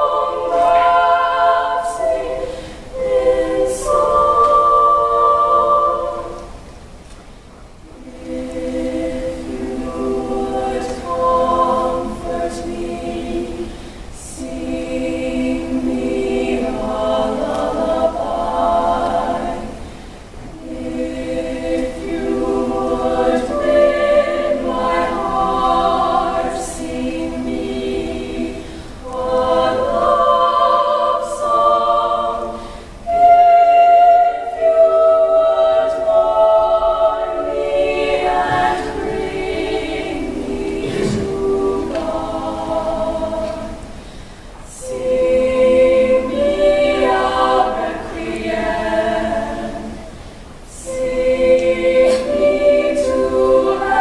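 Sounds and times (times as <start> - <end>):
women's choir singing: 0.0 - 7.0, 7.7 - 54.0.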